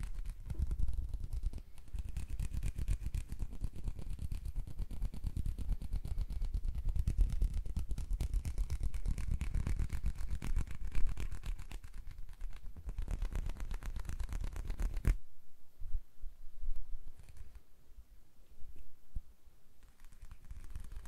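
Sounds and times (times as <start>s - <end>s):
hands rubbing against microphone: 0.0s - 15.2s, 16.7s - 17.6s, 19.8s - 21.0s.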